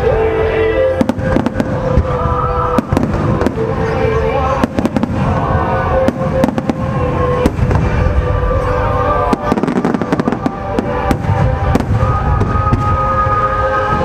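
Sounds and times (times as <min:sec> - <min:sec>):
fireworks bangs and crackles: 0:00.1 - 0:14.0.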